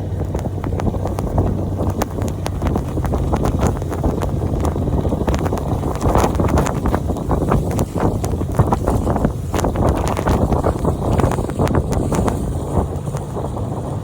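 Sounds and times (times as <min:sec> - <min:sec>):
sharp crunches and clicks: 0:00.0 - 0:13.7
vehicle engine running low: 0:00.0 - 0:14.0
wind noise on microphone: 0:00.0 - 0:14.0.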